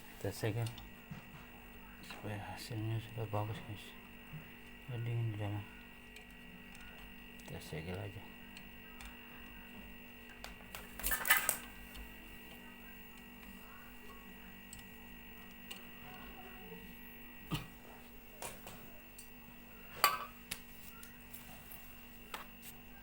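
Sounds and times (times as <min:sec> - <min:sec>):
refrigerator compressor hum: 0:00.0 - 0:23.0.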